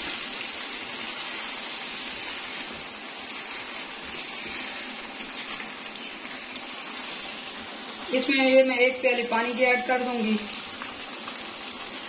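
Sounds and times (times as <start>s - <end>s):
fish curry sizzling in a pan: 0.0s - 12.0s.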